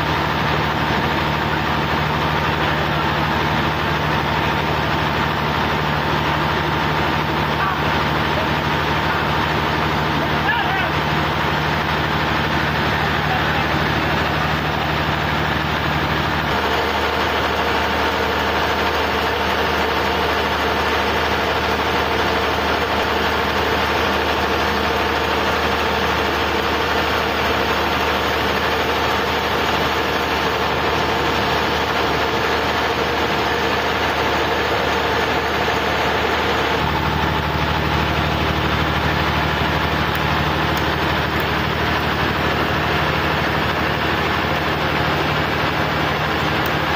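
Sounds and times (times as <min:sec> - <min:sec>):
sawmill engine running: 0:00.0 - 0:46.9.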